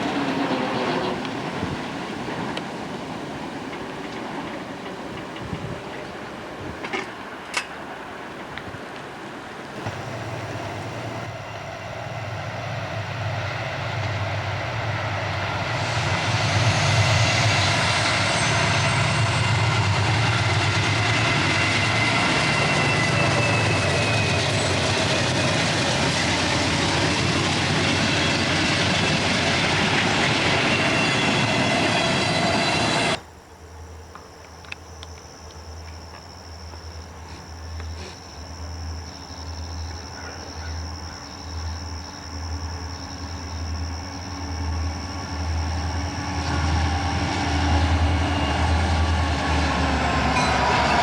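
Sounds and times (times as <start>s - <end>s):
train rolling past: 0.0s - 51.0s
wheels squealing on rails: 0.0s - 51.0s.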